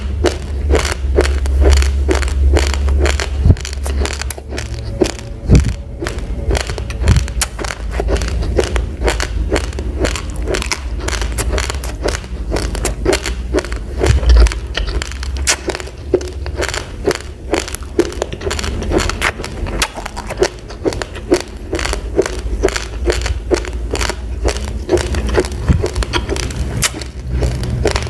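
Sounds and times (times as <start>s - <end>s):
raw rice being chewed: 0.0s - 28.0s.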